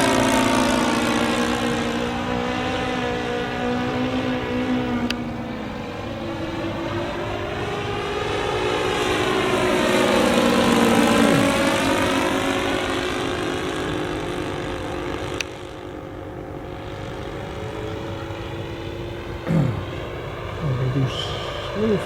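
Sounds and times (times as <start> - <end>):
model plane propeller flying past: 0.0 - 22.0.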